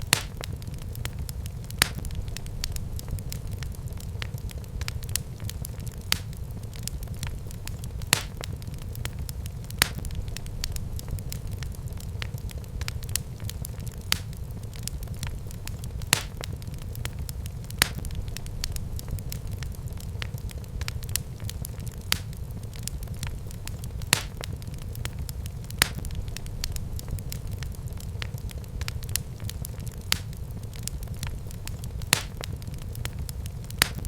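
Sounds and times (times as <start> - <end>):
fire popping: 0.0 - 34.0
wood fire crackling: 0.0 - 34.0.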